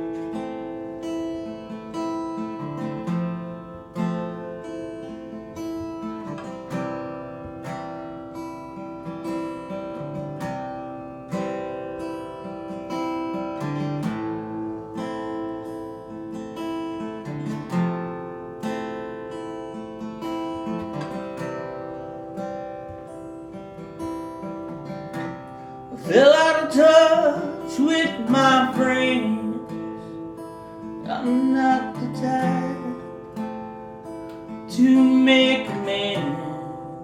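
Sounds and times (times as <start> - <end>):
acoustic guitar strummed chords: 0.0 - 37.0.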